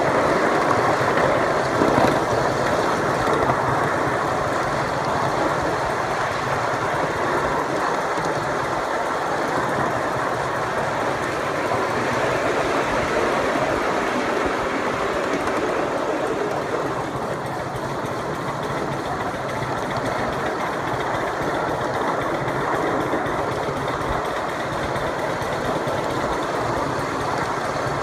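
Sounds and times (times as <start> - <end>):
miniature train wheels on rails: 0.0 - 28.0.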